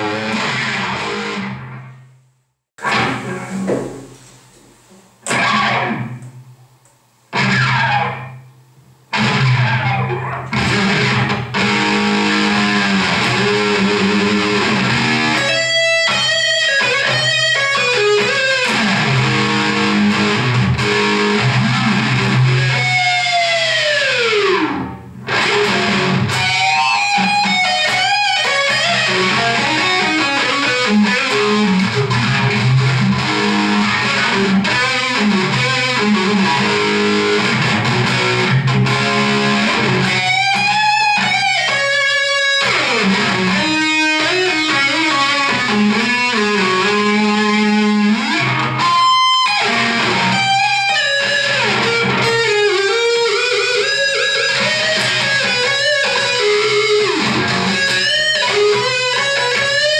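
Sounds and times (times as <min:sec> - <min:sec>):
distorted electric guitar riffing: 0:00.0 - 0:02.2, 0:02.8 - 0:06.6, 0:07.3 - 0:08.5, 0:09.1 - 0:59.9.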